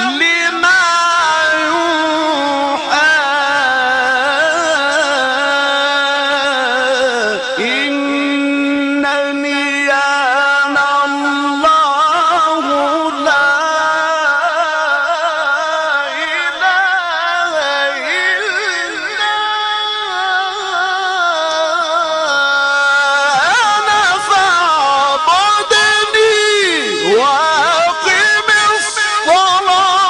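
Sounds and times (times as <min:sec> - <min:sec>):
person reciting melodically: 0:00.0 - 0:30.0.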